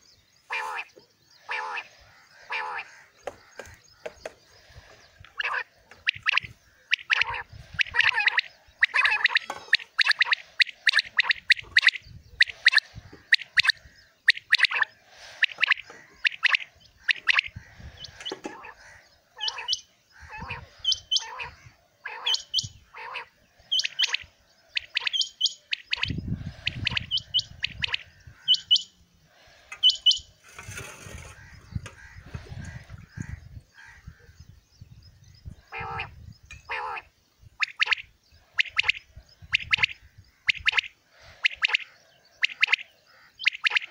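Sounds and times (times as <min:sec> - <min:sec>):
quail calling: 0:00.0 - 0:34.4, 0:35.4 - 0:43.9.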